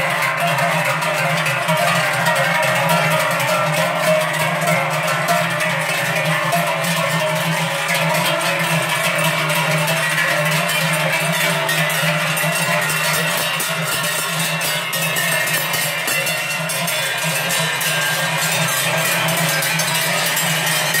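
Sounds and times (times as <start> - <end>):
cowbells clanging: 0.0 - 21.0.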